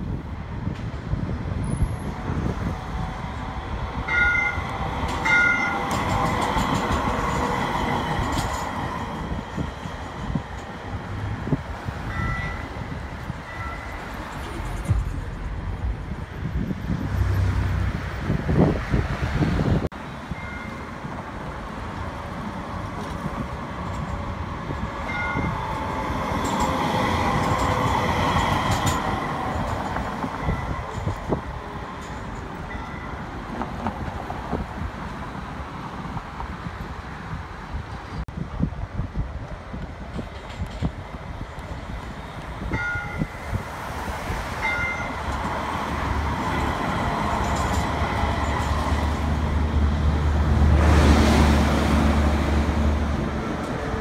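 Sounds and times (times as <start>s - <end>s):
car road noise: 0.0s - 38.3s, 39.8s - 54.0s
streetcar rumbling on rails: 0.0s - 54.0s.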